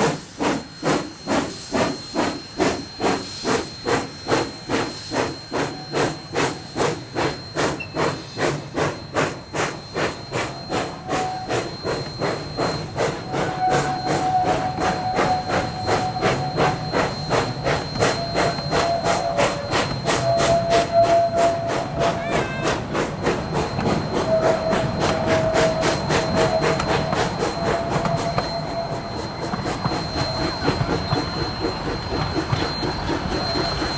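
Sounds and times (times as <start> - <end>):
steady steam hiss: 0.0 - 33.9
steam locomotive exhaust chuffing: 0.0 - 33.9.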